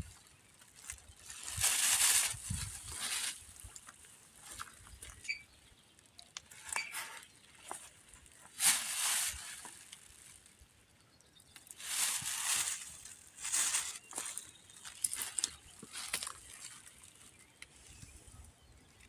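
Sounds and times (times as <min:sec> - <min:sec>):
leaves rustling: 0:00.0 - 0:05.3, 0:06.4 - 0:10.7, 0:11.6 - 0:18.2.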